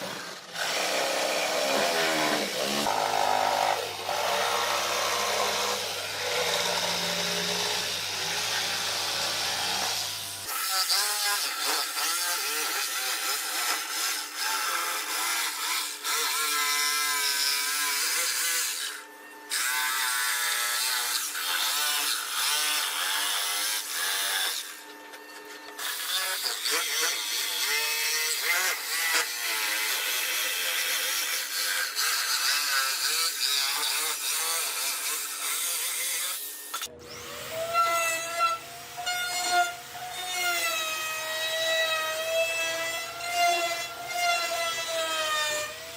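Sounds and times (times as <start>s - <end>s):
power tool whining on wood: 0.0s - 45.9s
whirring power tool: 0.0s - 45.9s.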